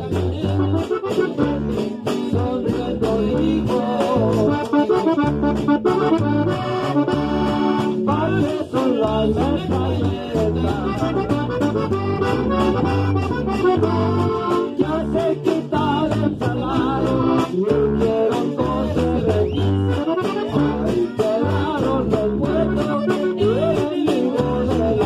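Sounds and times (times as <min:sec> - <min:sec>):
accordion melody: 0:00.0 - 0:25.0
acoustic guitar: 0:00.0 - 0:25.0
electric bass: 0:00.0 - 0:25.0.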